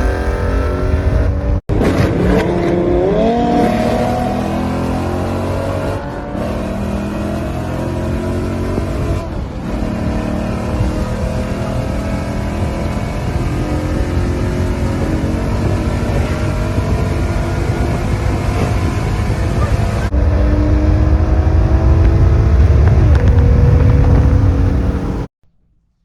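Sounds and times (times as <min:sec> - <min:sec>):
car engine accelerating: 0:00.0 - 0:25.3.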